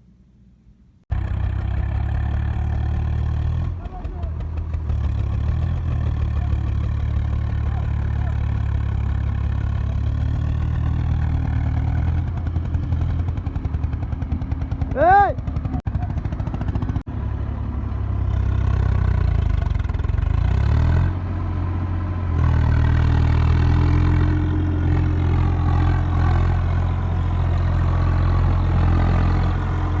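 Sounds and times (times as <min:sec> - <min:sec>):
tractor diesel engine running: 0:01.1 - 0:30.0.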